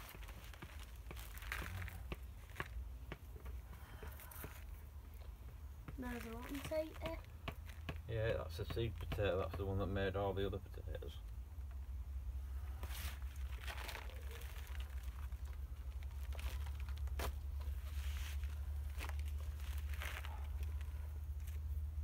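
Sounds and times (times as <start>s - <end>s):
hands rustling compost: 0.0s - 22.0s.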